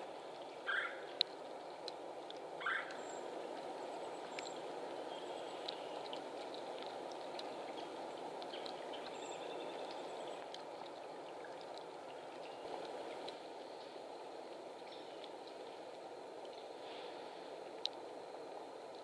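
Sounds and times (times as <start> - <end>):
rushing woodland ambience: 0.0 - 19.0
light ticks: 0.3 - 4.8, 5.5 - 13.9, 14.8 - 16.7, 17.7 - 18.2.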